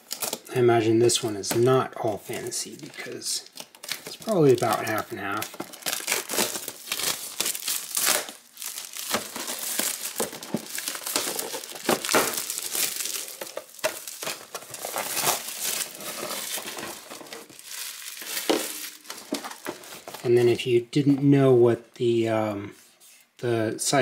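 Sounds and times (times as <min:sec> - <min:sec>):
plastic shrink-wrap crinkling: 0:00.0 - 0:01.6, 0:02.3 - 0:20.6.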